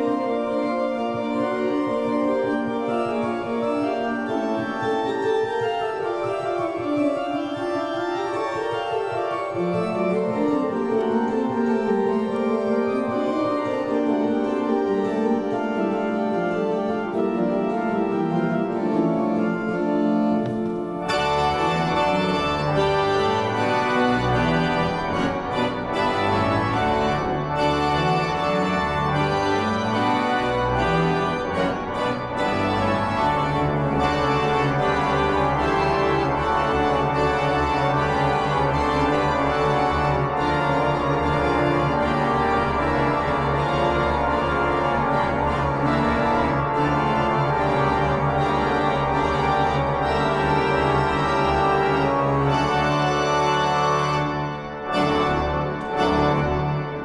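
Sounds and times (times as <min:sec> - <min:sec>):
church organ playing: 0:00.0 - 0:57.0.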